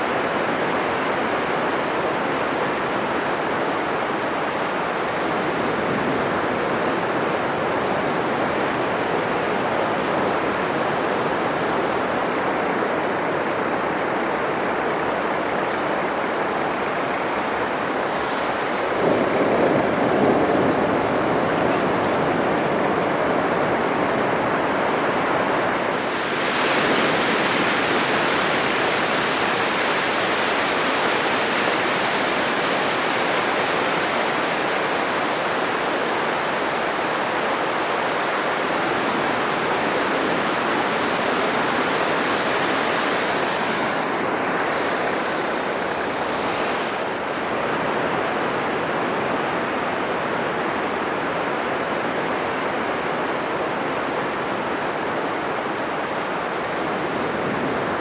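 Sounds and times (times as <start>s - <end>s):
surf breaking on a beach: 0.0s - 58.0s.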